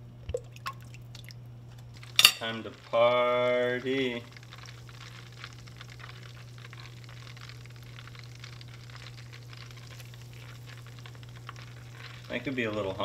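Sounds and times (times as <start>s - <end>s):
oil bubbling and crackling: 0.0s - 13.0s.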